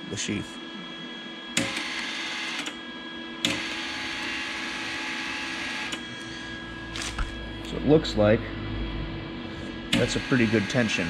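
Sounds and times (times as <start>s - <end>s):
cooling fan running: 0.0s - 11.0s
wire-feed motor running: 1.5s - 11.0s.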